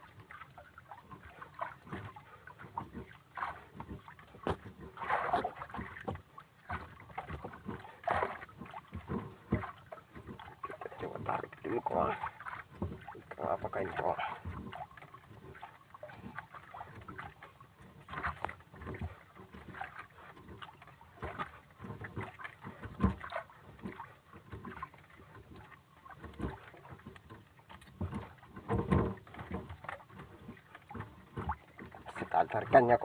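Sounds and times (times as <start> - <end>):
knocks and clatter on boat: 0.0 - 33.0
water washing: 0.0 - 33.0
wind: 0.0 - 33.0.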